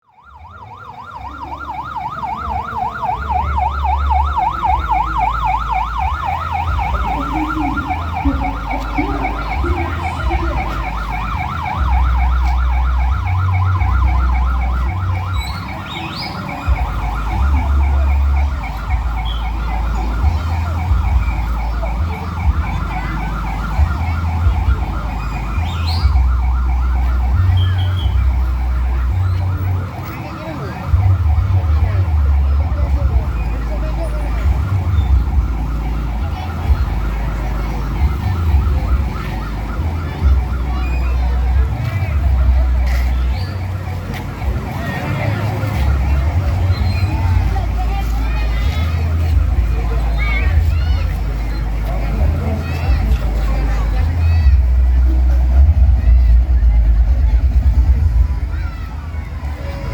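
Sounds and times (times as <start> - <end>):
siren-like warble: 0.0 - 51.8
deep bass notes: 3.0 - 15.8, 16.5 - 30.0, 30.8 - 59.9.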